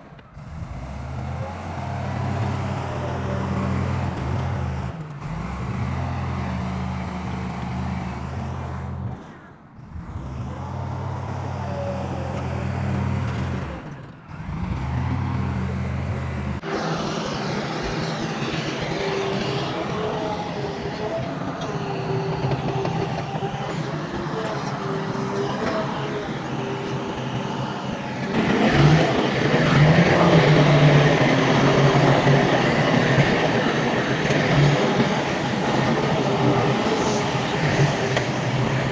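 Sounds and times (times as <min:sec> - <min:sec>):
heavy diesel engine running: 0:00.0 - 0:38.9
noisier engine sound: 0:00.0 - 0:38.9.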